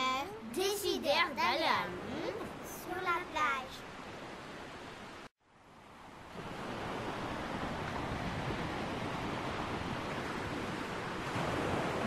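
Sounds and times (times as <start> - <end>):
ocean waves washing on beach: 1.2 - 12.0.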